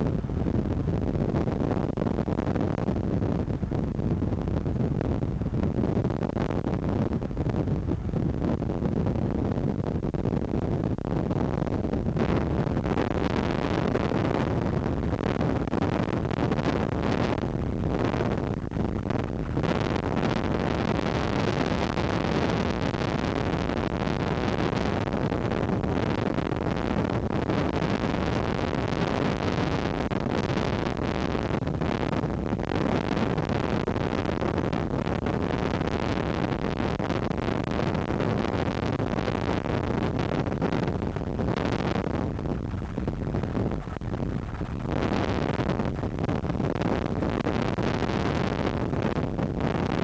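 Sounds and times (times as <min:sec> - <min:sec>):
steady rushing noise: 0:00.0 - 0:50.0.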